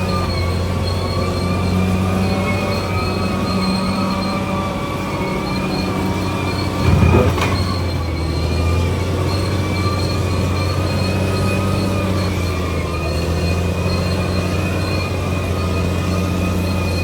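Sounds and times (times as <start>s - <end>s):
bulldozer diesel engine and tracks: 0.0s - 17.0s.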